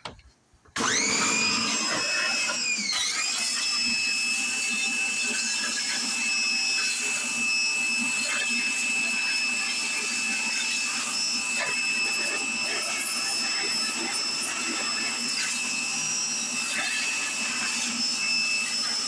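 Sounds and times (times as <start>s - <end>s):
electric motor whining: 0.8s - 19.0s.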